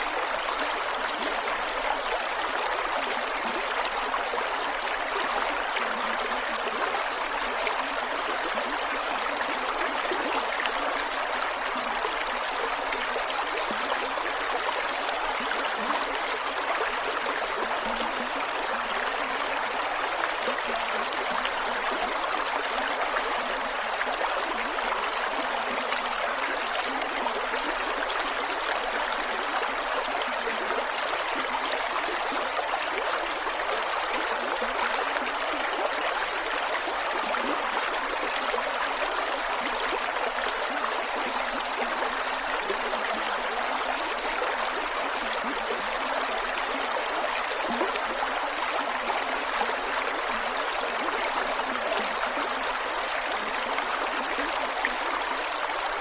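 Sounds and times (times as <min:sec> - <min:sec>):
creek water flowing over rocks: 0:00.0 - 0:56.0.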